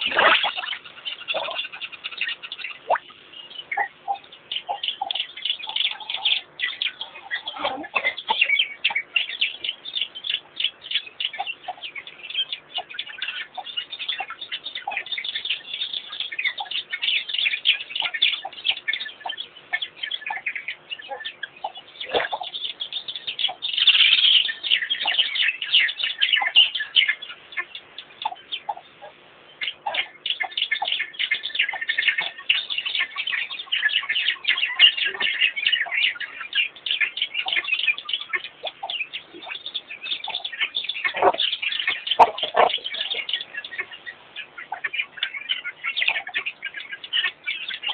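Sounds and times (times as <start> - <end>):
birds chirping: 0.0 - 47.9
lower bird calls: 0.0 - 47.9.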